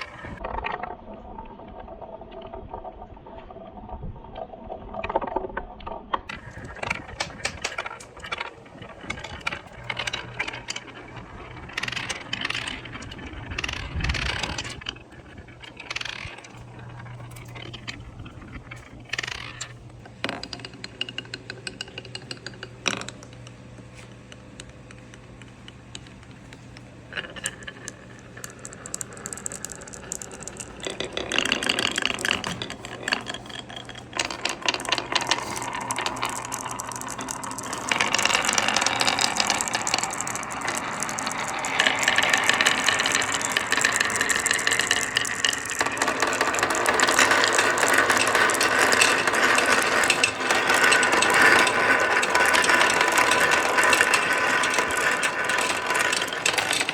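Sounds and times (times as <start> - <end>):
marbles rattling down wooden run: 0.0 - 0.4, 6.3 - 56.9.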